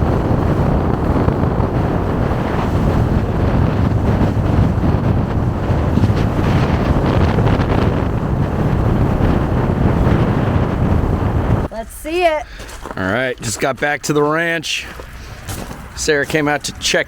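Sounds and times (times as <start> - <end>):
vehicle rumble on road: 0.0 - 11.7, 12.6 - 17.0
wind buffeting microphone: 0.0 - 17.0.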